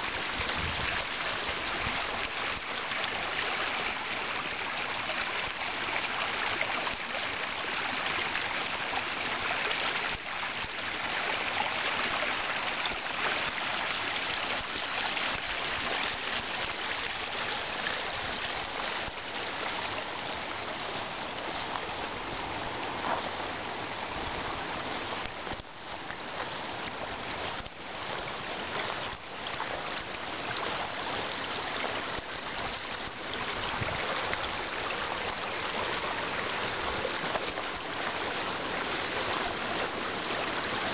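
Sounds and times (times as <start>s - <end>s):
stream rushing water: 0.0s - 40.9s.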